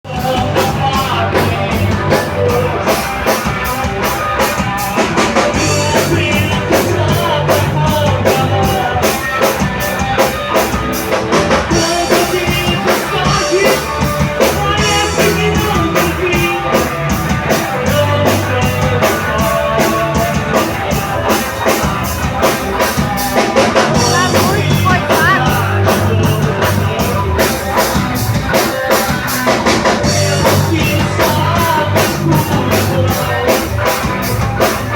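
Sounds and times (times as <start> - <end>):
drum kit beat: 0.0 - 34.9
rock band playing live: 0.0 - 34.9.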